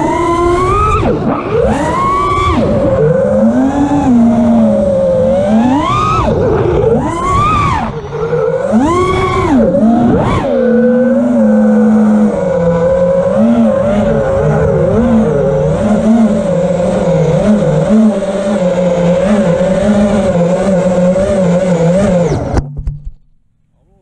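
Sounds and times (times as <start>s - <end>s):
quadcopter motors whining: 0.0s - 22.6s.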